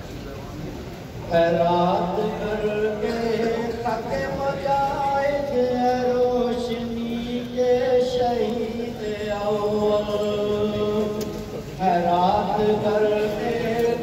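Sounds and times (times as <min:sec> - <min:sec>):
man singing slow chant: 0:01.2 - 0:14.0.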